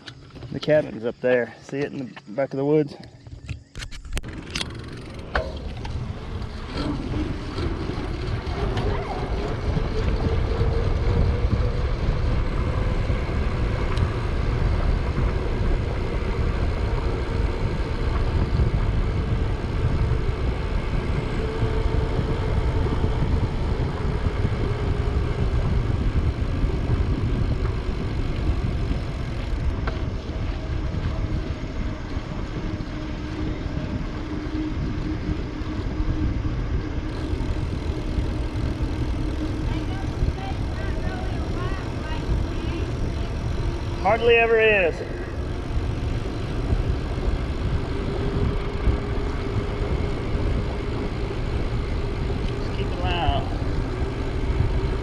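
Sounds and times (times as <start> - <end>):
bicycle rolling on road: 0.0 - 55.0
wind buffeting microphone: 0.0 - 55.0.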